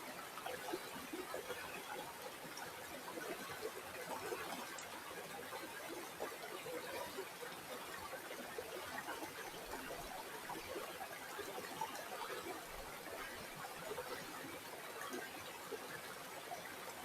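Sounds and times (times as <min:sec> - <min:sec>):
river water trickling over stones: 0:00.0 - 0:17.0.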